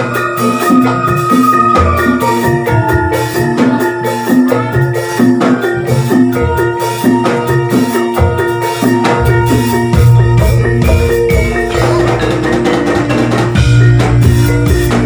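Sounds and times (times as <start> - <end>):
gamelan music over loudspeakers: 0.0 - 15.0.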